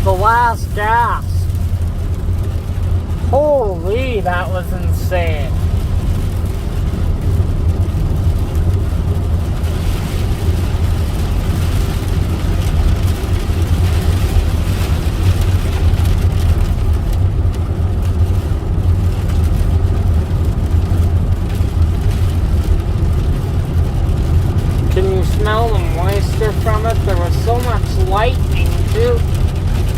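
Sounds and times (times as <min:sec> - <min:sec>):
car road and engine rumble: 0:00.0 - 0:29.9
rain hissing: 0:00.0 - 0:29.9.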